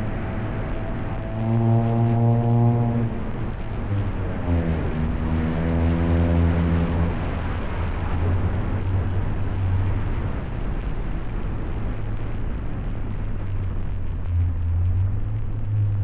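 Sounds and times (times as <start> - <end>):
car engine humming low: 0.0 - 16.0
tyre and road noise: 0.0 - 16.0.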